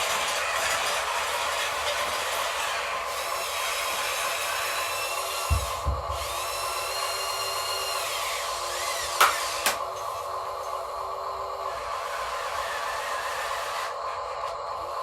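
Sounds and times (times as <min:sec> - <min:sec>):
higher motor whine: 0:00.0 - 0:15.0
steady electric motor whine: 0:00.0 - 0:15.0.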